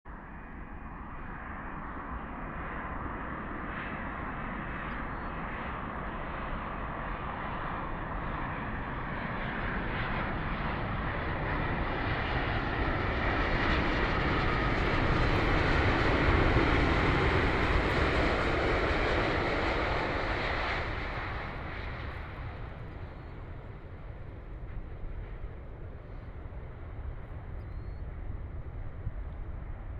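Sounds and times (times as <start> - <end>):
jet airliner passing: 0.2 - 29.9.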